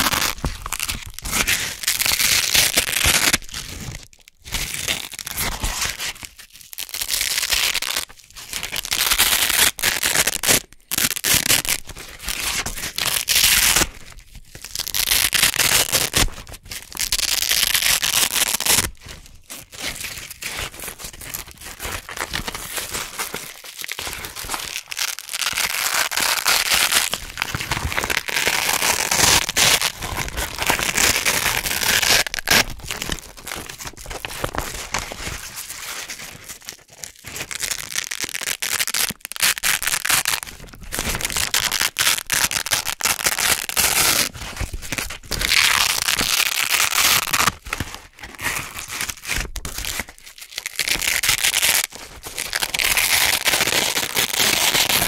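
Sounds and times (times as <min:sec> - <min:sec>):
velcro ripping apart: 0:00.0 - 0:03.8, 0:06.8 - 0:13.9, 0:14.7 - 0:16.4, 0:17.0 - 0:19.0, 0:21.3 - 0:55.0.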